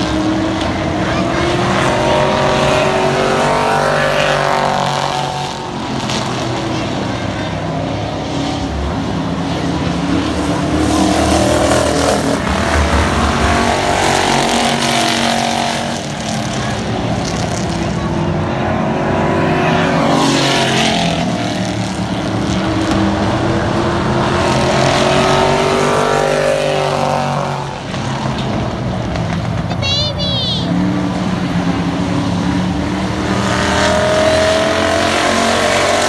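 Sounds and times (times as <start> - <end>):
race car passing close by: 0.0 - 29.6
race car engines lapping: 0.0 - 36.0.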